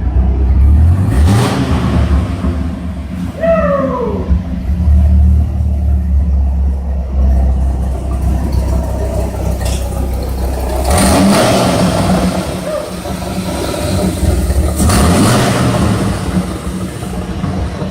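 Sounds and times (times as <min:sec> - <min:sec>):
vehicle engine running: 0:00.0 - 0:17.9.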